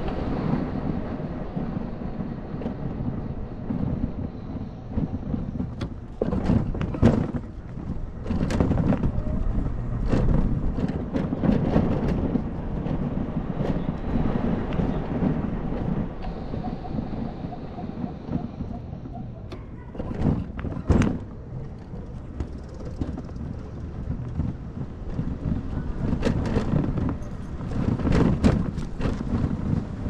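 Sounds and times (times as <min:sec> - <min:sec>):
low road rumble: 0:00.0 - 0:30.0
wind on camera microphone: 0:00.0 - 0:30.0.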